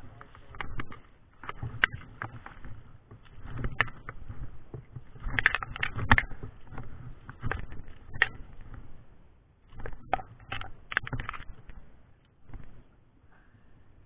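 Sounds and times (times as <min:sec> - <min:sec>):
clicks and knocks of handling fish: 0:00.0 - 0:09.0, 0:09.7 - 0:12.9.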